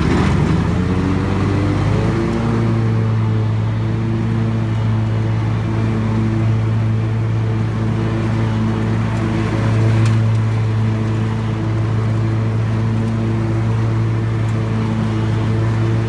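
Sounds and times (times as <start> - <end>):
mower engine running: 0.0 - 16.0.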